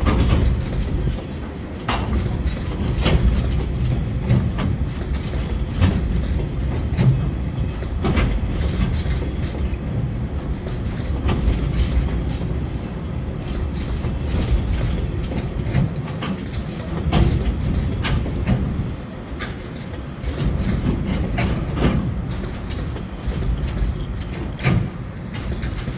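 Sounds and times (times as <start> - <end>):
freight train rumbling past: 0.0 - 25.9
wheels clacking on rail joints: 0.0 - 25.9.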